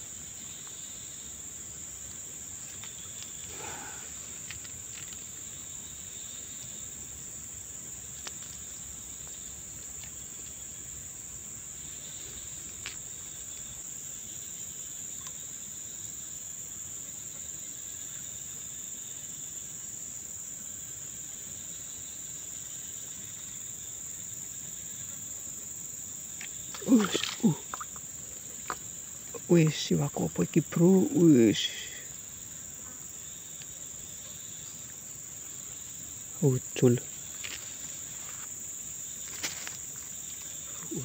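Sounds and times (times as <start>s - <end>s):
insect chorus trilling: 0.0s - 41.0s.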